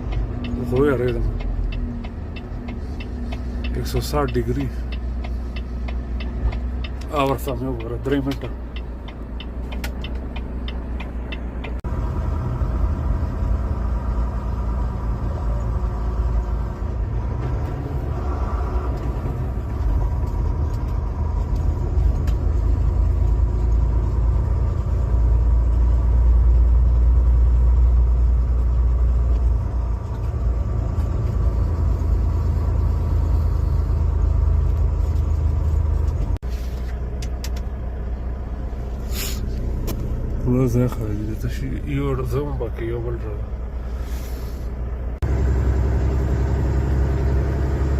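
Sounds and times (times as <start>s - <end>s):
truck engine and road rumble: 0.0s - 47.9s.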